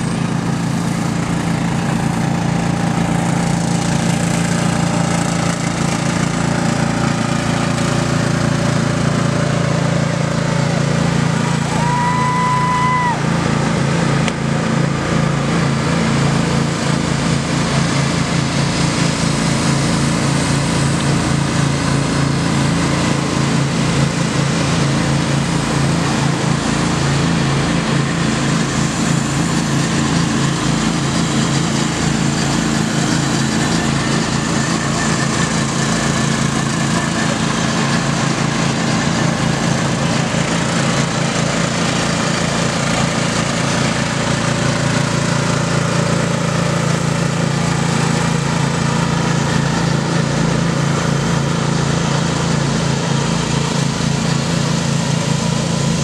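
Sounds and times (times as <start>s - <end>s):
riding lawn mower engines: 0.0s - 56.0s.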